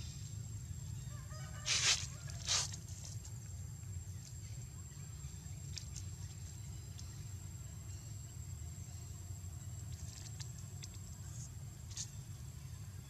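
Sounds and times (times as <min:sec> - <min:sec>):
faint high whine: 0:00.0 - 0:13.0
low background rumble: 0:02.2 - 0:13.0.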